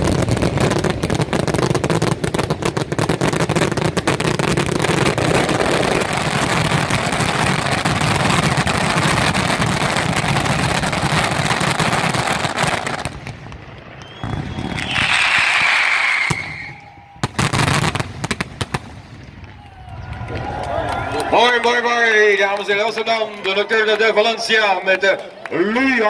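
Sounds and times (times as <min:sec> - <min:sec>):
fireworks bangs and crackle: 0:00.0 - 0:23.4.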